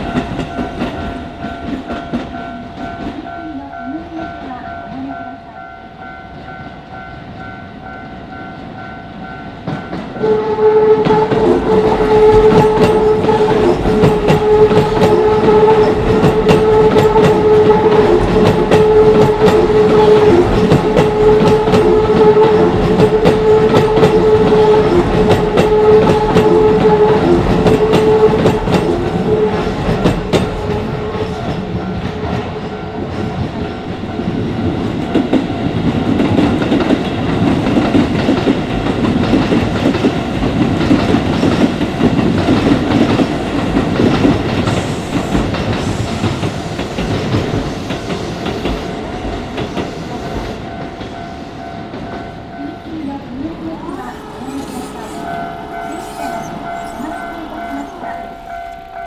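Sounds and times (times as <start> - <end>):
electric train passing: 0.0 - 59.0
train wheels clacking over rail joints: 11.1 - 59.0.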